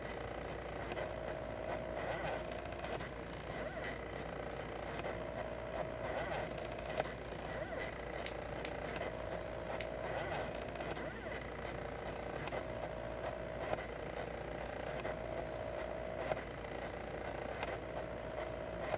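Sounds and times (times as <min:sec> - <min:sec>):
constant low hum: 0:00.0 - 0:18.9
stepper motors whining: 0:00.0 - 0:18.9.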